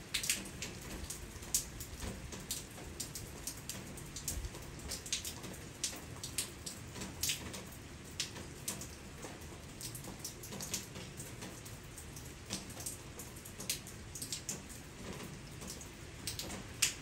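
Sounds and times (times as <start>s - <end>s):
loud nearby raindrops: 0.0s - 17.0s
steady rain falling: 0.0s - 17.0s.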